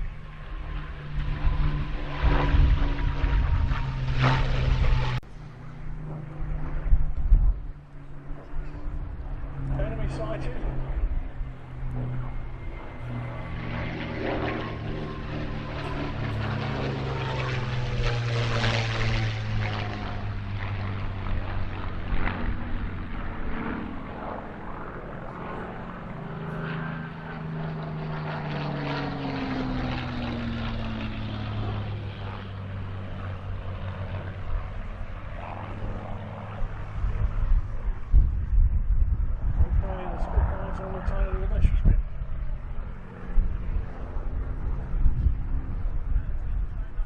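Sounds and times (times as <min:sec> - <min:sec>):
piston engine aircraft flying past: 0:00.0 - 0:47.0.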